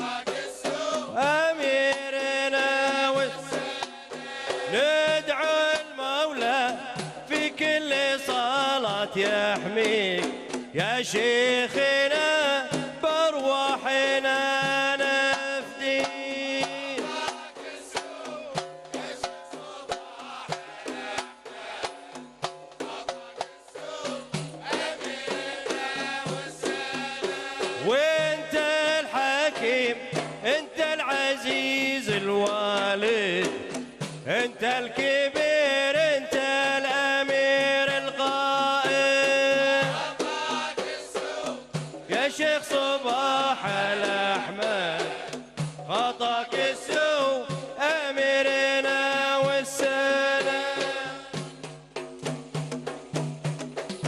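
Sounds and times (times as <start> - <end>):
patriotic song with sliding vocals: 0.0 - 51.9
steady drum beat: 0.0 - 54.0
steady percussion: 0.0 - 54.0.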